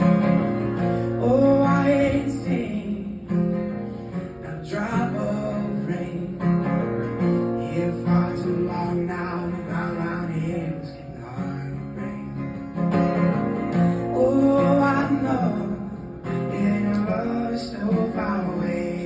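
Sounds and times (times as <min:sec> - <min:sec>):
acoustic guitar playing chords: 0:00.0 - 0:19.0.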